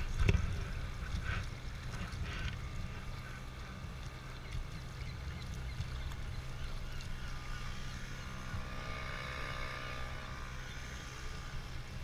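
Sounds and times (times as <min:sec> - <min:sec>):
outboard motor running: 0:00.0 - 0:12.0
wind rumble on microphone: 0:00.0 - 0:12.0.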